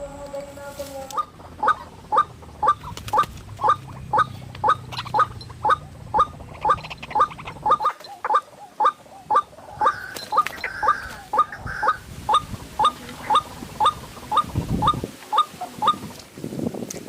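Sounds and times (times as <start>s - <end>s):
waterhen calling: 0.0s - 16.3s.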